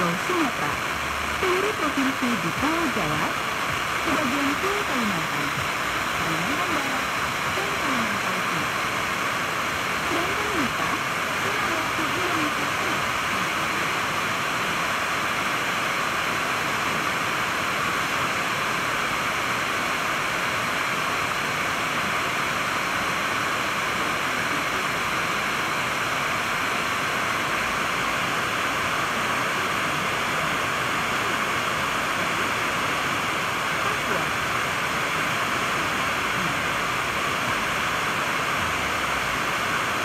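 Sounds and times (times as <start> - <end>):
radio static hiss: 0.0 - 40.0.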